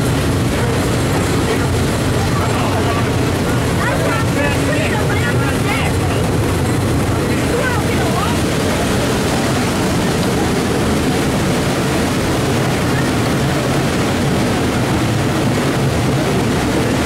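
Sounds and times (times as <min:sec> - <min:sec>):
train rumbling and clattering: 0:00.0 - 0:17.0.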